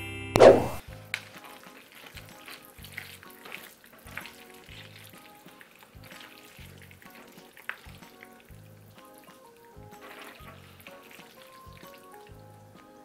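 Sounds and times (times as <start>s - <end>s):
background music with bass: 0.0s - 1.4s, 2.1s - 3.4s, 4.1s - 7.2s, 7.8s - 11.0s, 11.6s - 13.0s
sticky wet squelching of food: 0.8s - 13.0s.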